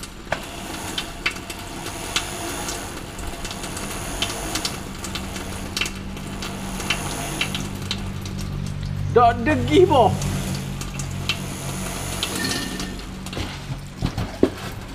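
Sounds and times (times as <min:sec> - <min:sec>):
low motor hum: 0:00.0 - 0:14.9
water hissing from tap: 0:00.0 - 0:14.9.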